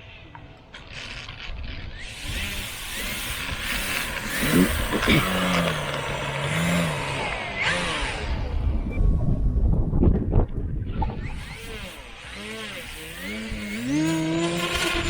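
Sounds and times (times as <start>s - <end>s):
model airplane motor and propeller: 0.3s - 15.0s.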